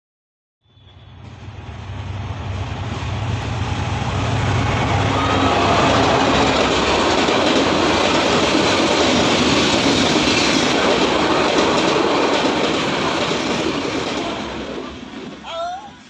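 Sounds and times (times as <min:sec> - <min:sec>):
train coaches passing at speed: 0:00.6 - 0:16.0.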